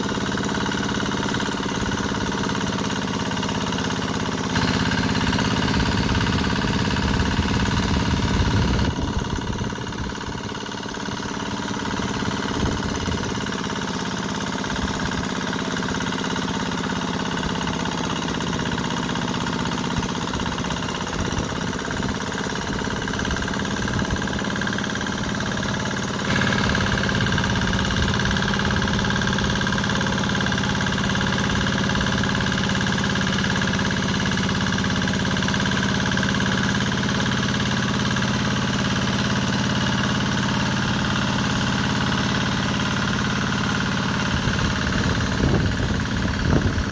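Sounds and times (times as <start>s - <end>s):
hand tractor engine running: 0.0s - 46.9s.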